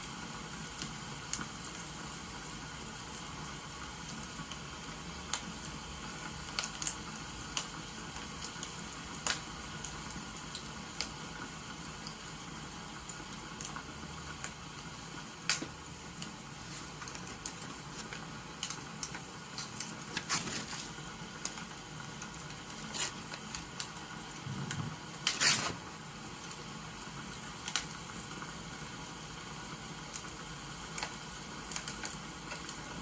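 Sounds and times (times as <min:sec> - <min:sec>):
rain hissing: 0:00.0 - 0:33.0
wood fire crackling: 0:00.0 - 0:33.0.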